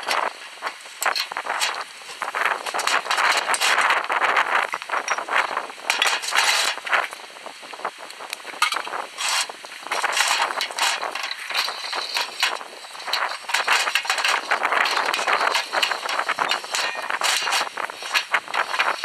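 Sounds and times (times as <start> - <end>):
metal vise parts clicking and scraping: 0.0 - 7.1, 8.6 - 19.0.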